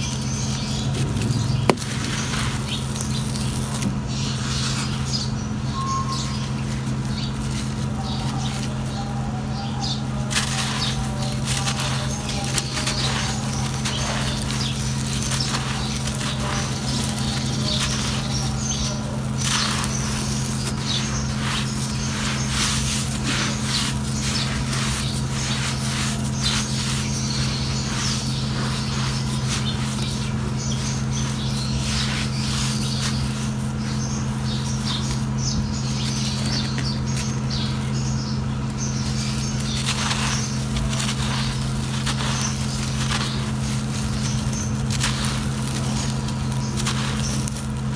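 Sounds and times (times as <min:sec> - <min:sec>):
dry chunks crunching and crackling: 0:00.0 - 0:47.9
steady low hum: 0:00.0 - 0:47.9.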